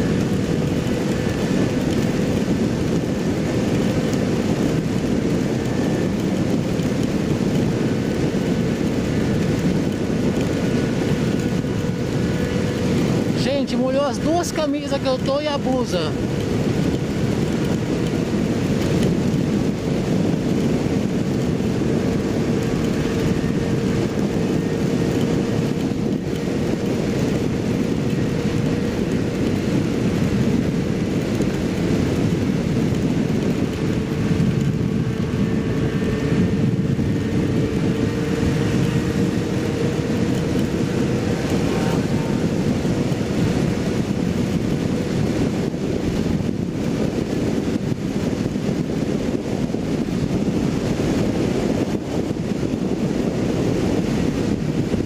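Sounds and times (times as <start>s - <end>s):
motorcycle engine cruising: 0.0s - 55.0s
riding wind noise: 0.0s - 55.0s.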